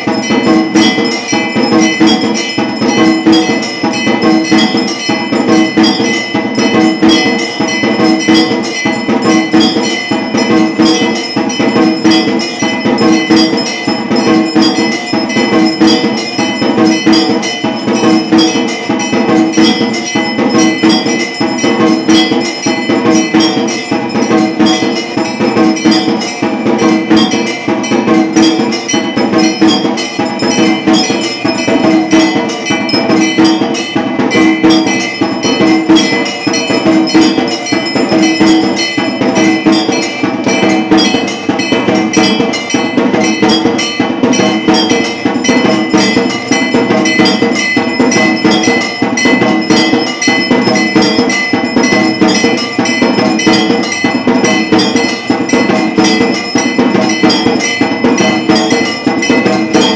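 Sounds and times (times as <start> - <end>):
steady repeating beat: 0.0 - 59.9
temple bells clanging: 0.0 - 59.9.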